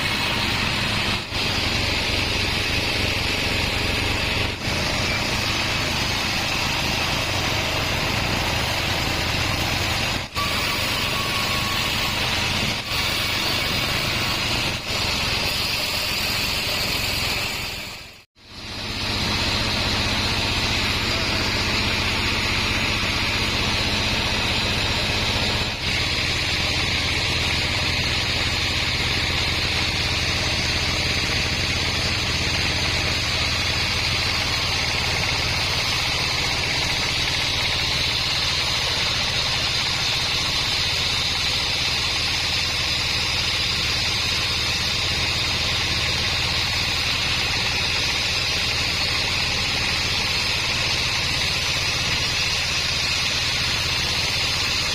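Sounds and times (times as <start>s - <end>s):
bandsaw running: 0.0s - 54.9s.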